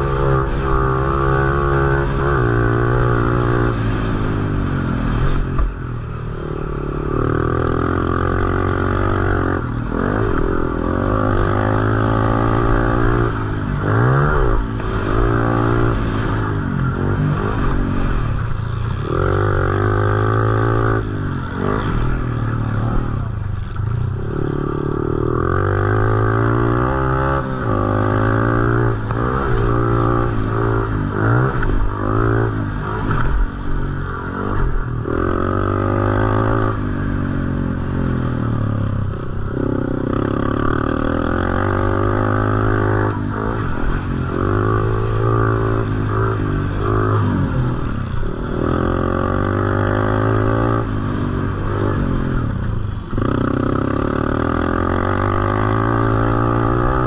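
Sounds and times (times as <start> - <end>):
dirt bike engine revving: 0.0 - 5.8, 6.6 - 57.0.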